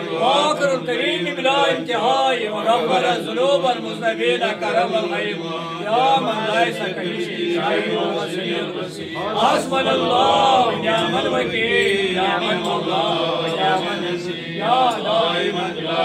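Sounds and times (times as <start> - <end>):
man chanting a prayer: 0.0 - 16.0.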